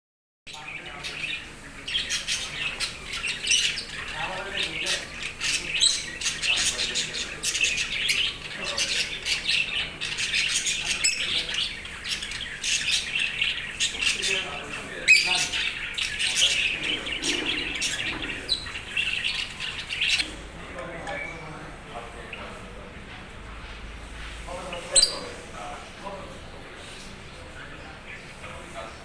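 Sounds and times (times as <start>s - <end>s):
birds chirping and squawking: 0.5s - 29.0s.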